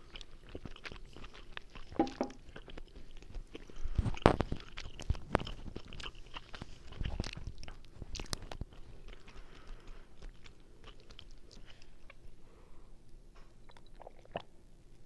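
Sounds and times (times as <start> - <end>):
wet chewing and mouth smacks: 0.0 - 12.4, 13.6 - 15.0.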